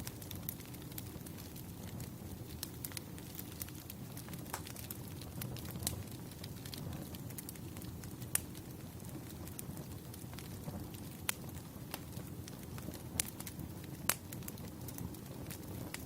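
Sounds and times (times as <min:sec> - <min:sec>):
fire popping and snapping: 0:00.0 - 0:16.0
low rumble of burning logs: 0:00.0 - 0:16.0.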